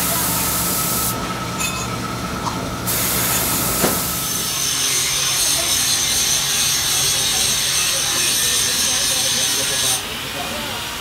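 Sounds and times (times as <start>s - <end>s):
workshop machinery hissing: 0.0s - 11.0s.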